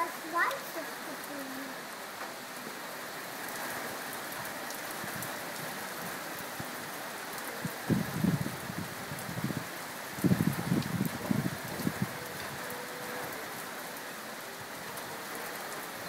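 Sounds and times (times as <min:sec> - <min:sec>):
steady rain on trees: 0:00.0 - 0:16.0.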